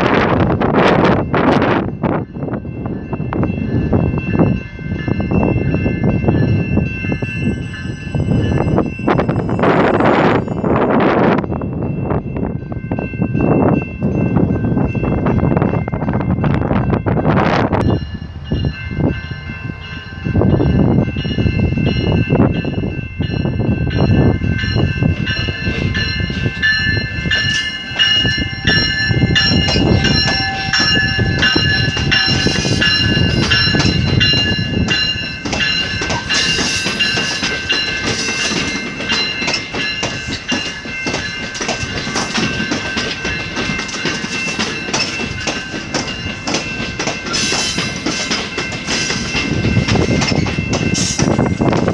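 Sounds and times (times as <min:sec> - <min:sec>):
high squeal of train: 0:00.0 - 0:51.9
train rumbling on rails: 0:00.0 - 0:51.9.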